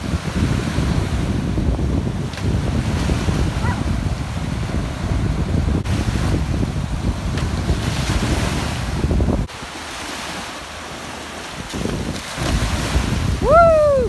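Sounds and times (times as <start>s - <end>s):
wind buffeting microphone: 0.0s - 10.4s, 11.0s - 14.0s
small waves breaking on sand: 0.0s - 14.0s.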